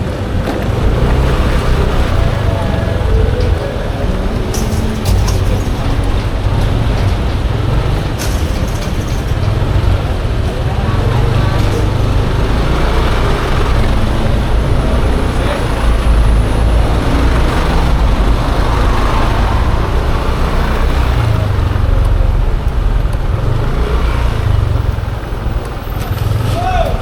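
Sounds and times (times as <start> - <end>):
scooter engine: 0.0 - 27.0.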